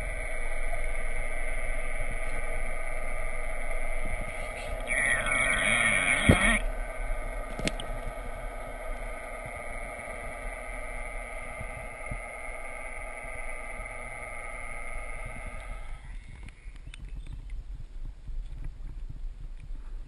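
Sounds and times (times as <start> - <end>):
underwater boat motor hum: 0.0 - 16.9.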